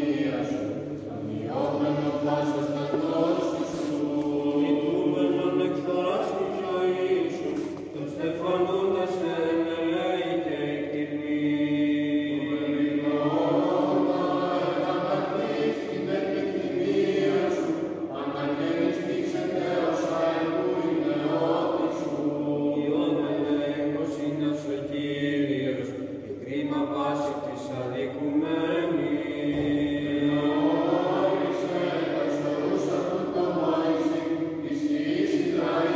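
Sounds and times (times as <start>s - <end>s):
choir singing a slow chant: 0.0s - 35.9s.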